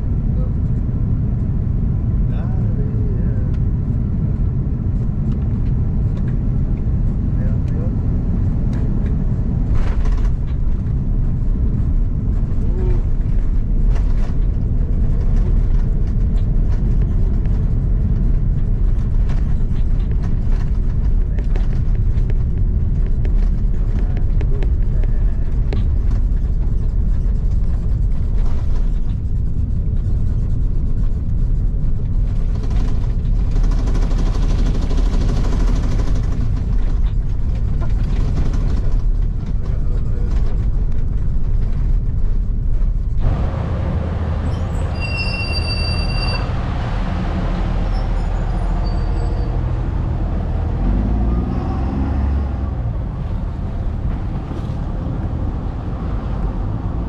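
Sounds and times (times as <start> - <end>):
airliner cabin rumble: 0.0 - 57.0
outdoor noise: 0.0 - 57.0.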